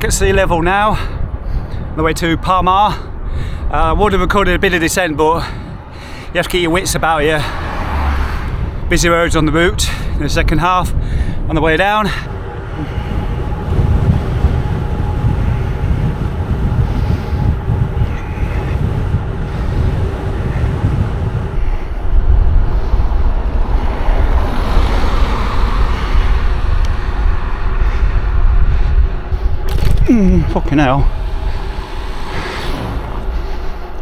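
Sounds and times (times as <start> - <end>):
bicycle road noise: 0.0 - 34.0
wind buffeting microphone: 0.0 - 34.0.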